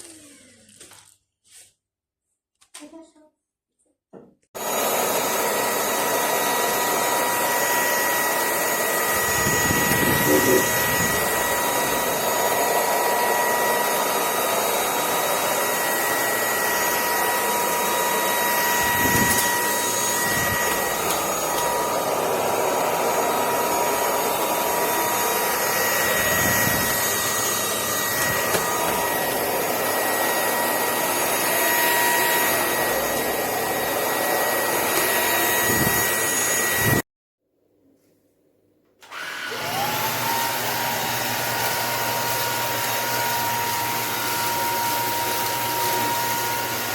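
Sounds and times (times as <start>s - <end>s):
stick vacuum cleaner whine: 4.6s - 37.0s, 39.0s - 46.9s.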